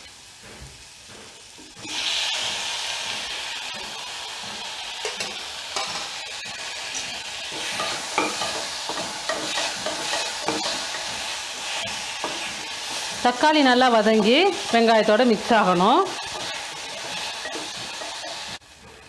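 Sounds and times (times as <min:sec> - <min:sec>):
vegetables sizzling in oil: 0:00.0 - 0:19.0
spoon scraping pan: 0:01.6 - 0:19.0.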